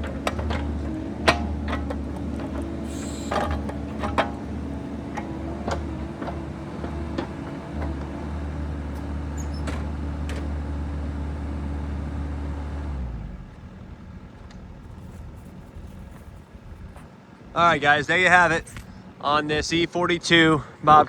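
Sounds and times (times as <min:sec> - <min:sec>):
excavator diesel engine running: 0:00.0 - 0:19.1.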